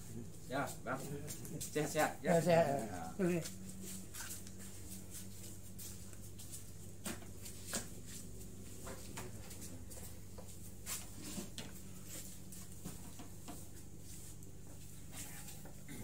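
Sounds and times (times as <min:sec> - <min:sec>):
knocks and rustles of people moving: 0:00.0 - 0:16.0
low electrical hum: 0:00.0 - 0:16.0.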